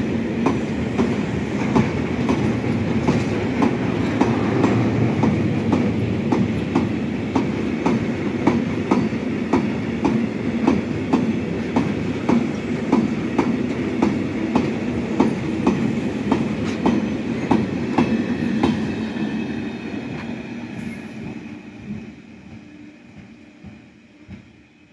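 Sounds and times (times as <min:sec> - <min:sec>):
freight train rumble: 0:00.0 - 0:24.9.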